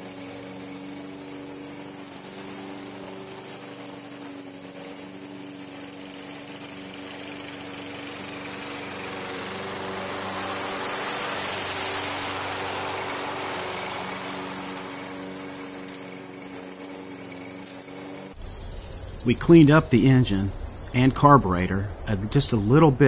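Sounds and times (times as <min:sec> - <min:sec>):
lawn mower engine mowing: 0:00.0 - 0:23.0.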